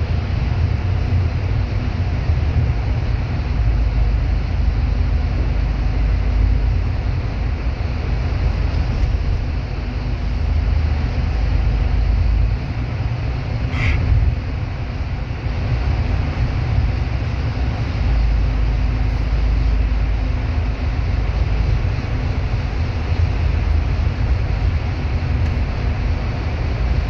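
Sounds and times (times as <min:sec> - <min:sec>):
bus engine and road rumble: 0:00.0 - 0:27.0.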